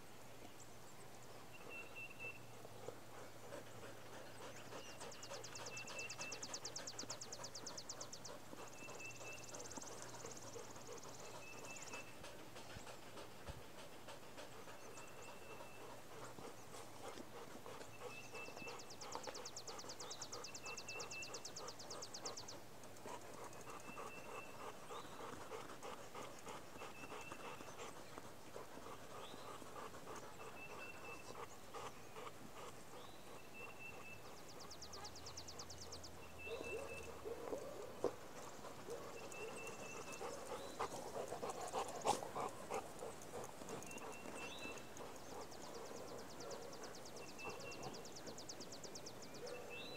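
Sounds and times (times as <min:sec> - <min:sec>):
dog panting: 0:01.4 - 0:49.9.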